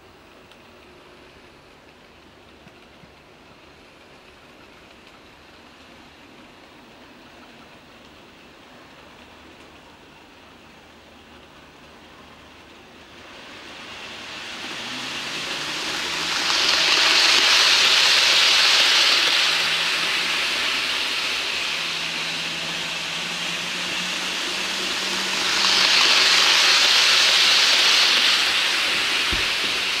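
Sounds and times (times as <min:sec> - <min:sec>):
model train wheels and motors: 0:00.0 - 0:30.0.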